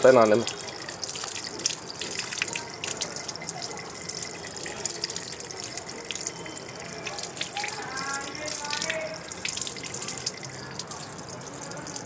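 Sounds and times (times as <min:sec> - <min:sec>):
water drips and splashes: 0:00.0 - 0:12.0
water running from a tap: 0:00.0 - 0:12.0.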